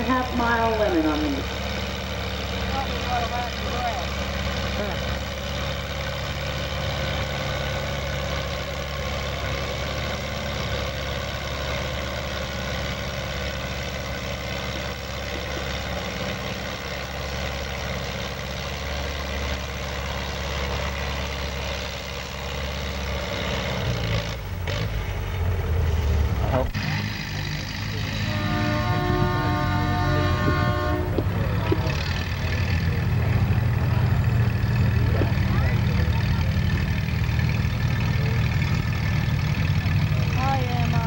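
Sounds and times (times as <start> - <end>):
tractor engine under load: 0.0 - 41.0.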